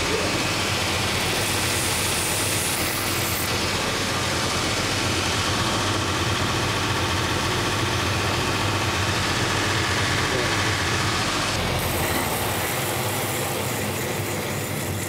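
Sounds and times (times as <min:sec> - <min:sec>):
sanding machine humming: 0:00.0 - 0:15.0.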